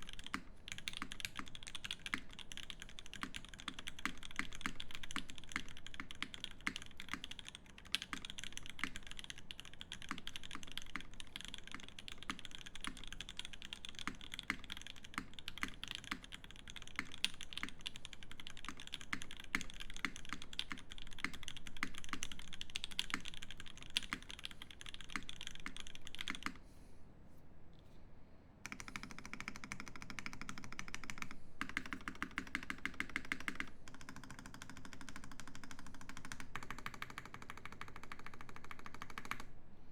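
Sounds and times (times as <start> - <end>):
fast typing on mechanical keyboard: 0.0 - 26.6, 28.7 - 39.5.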